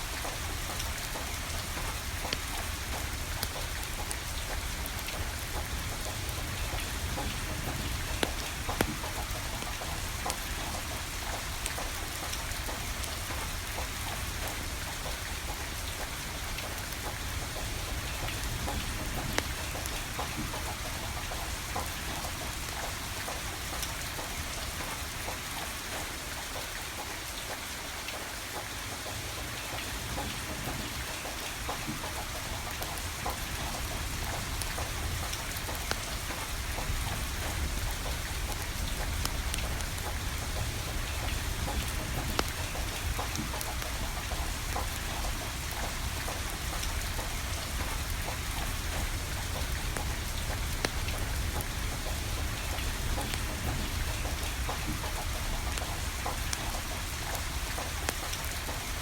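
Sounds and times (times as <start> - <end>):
wood fire crackling: 0.0 - 25.3, 30.0 - 59.0
rain falling: 0.0 - 59.0.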